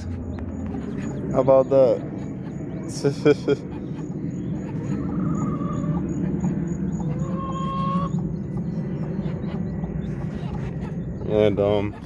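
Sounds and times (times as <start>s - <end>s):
chickens calling: 0.0s - 12.0s
steady low rumble: 0.0s - 12.0s.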